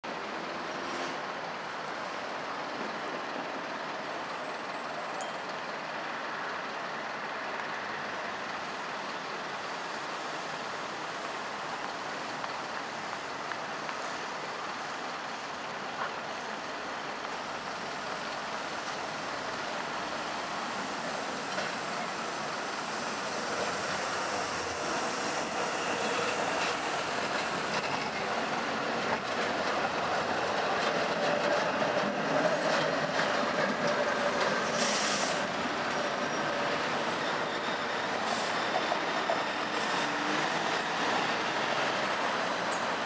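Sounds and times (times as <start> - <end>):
city street noise: 0.0 - 43.0
tram rolling along tracks: 0.0 - 43.0.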